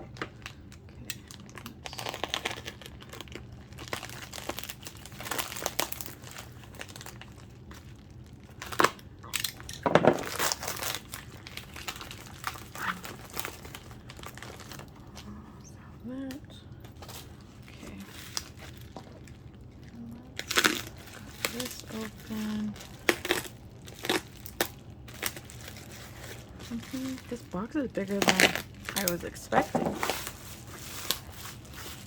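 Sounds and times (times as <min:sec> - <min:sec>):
package crinkling and rustling: 0:00.0 - 0:15.4, 0:16.2 - 0:32.0
packaging tearing: 0:01.2 - 0:15.0, 0:17.9 - 0:19.6, 0:20.4 - 0:29.3, 0:30.0 - 0:32.0.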